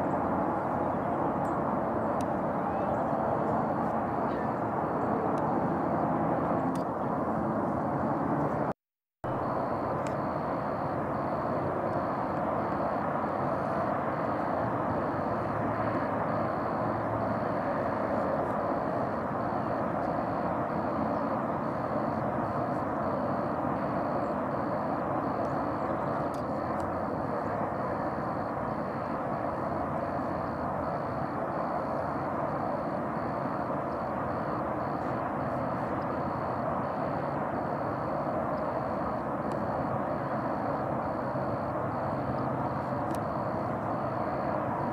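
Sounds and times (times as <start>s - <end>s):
outdoor background roar: 0.0s - 44.9s.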